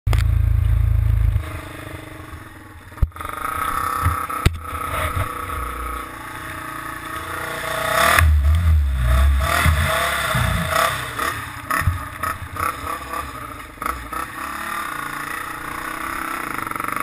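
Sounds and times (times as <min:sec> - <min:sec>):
quad engine running: 0:00.1 - 0:17.0.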